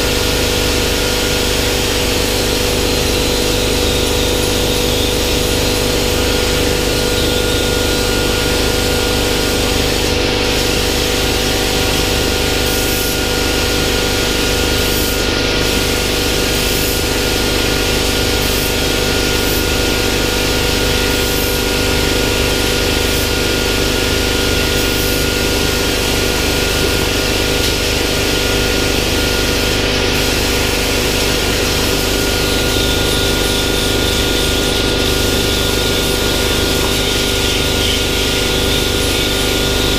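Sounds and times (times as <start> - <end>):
plasma cutter humming and hissing: 0.0 - 39.9.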